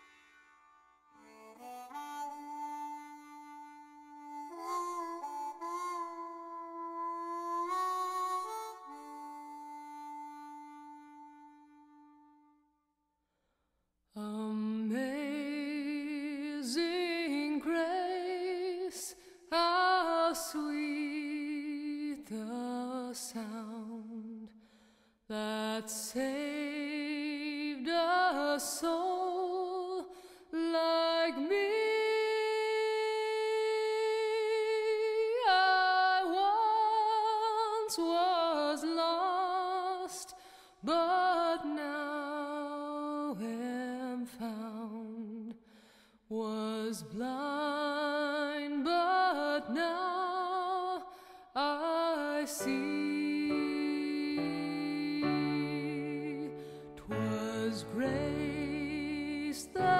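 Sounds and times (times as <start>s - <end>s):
person singing with wide vibrato: 0.0s - 12.6s, 14.2s - 24.6s, 25.2s - 59.9s.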